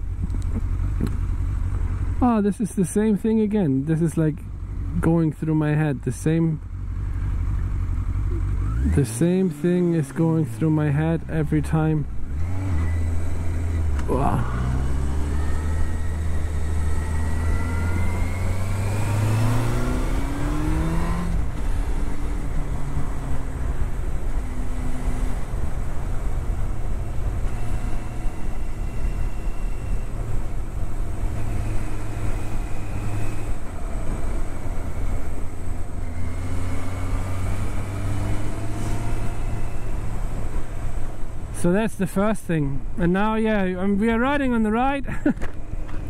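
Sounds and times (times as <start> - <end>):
motorcycle engine accelerating: 3.9 - 41.6.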